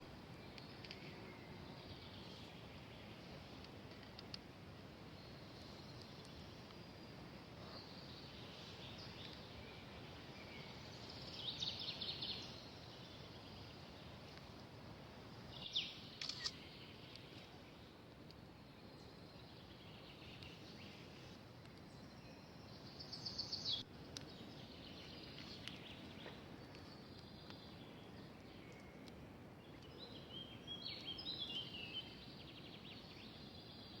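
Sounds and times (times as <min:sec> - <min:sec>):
soft outdoor hiss: 0:00.0 - 0:34.0.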